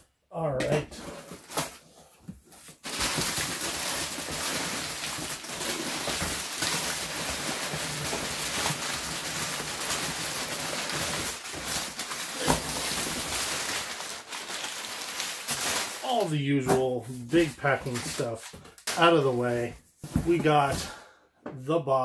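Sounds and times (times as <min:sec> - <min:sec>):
packing paper rustling and crinkling: 0:01.1 - 0:20.8.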